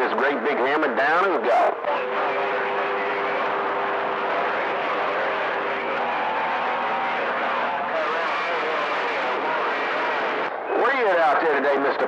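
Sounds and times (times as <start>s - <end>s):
radio static hiss: 1.2s - 5.9s, 6.9s - 12.0s.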